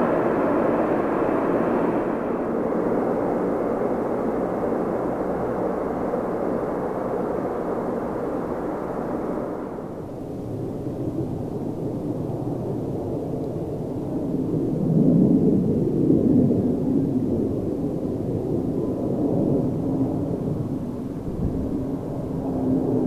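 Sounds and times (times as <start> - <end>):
faint steady hum: 0.0 - 23.0
jet engine rumble: 0.0 - 23.0.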